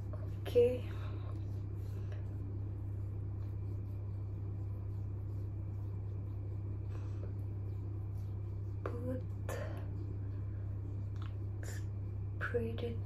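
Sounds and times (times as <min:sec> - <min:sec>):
hands rubbing facial skin: 0:00.0 - 0:12.4
steady low hum: 0:00.0 - 0:13.0.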